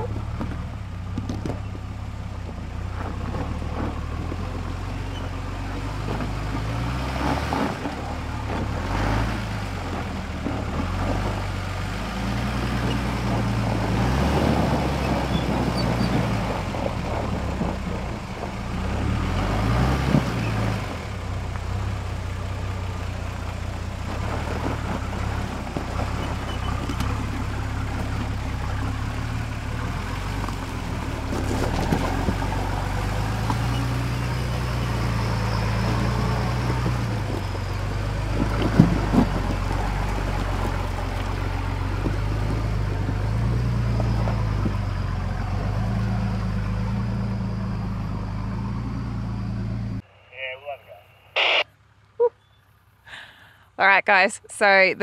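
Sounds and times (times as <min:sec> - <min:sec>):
tyres on gravel and rock: 0:00.0 - 0:50.0
engine revving under load: 0:02.8 - 0:50.0.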